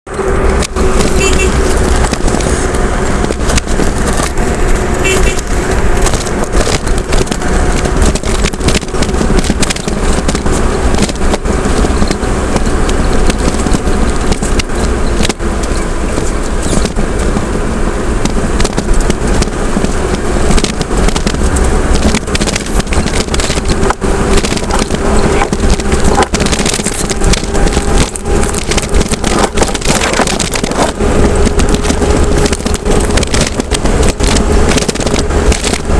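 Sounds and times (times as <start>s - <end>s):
road rumble: 0.0s - 35.9s
vehicle engine hum: 0.0s - 35.9s
rattles and knocks: 0.1s - 35.9s.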